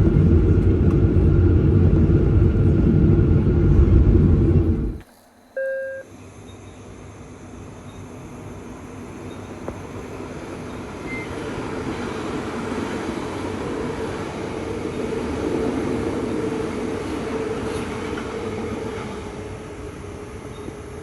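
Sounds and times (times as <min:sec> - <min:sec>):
train rumble: 0:00.0 - 0:05.6, 0:08.3 - 0:21.0.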